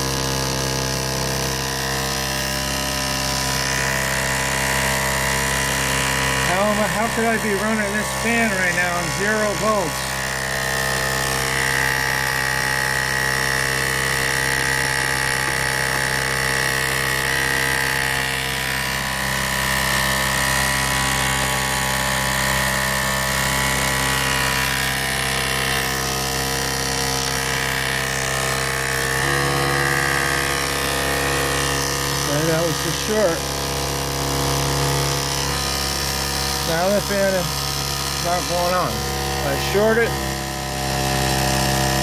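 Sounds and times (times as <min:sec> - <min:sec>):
small electric motor humming: 0:00.0 - 0:42.0.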